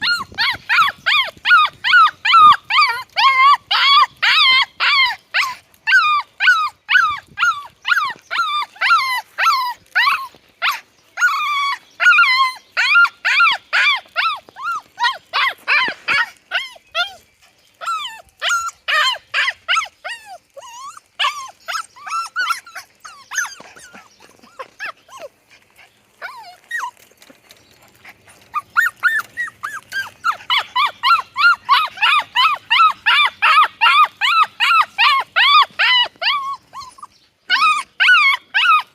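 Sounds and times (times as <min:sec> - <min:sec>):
puppies yipping and whining: 0:00.0 - 0:38.9.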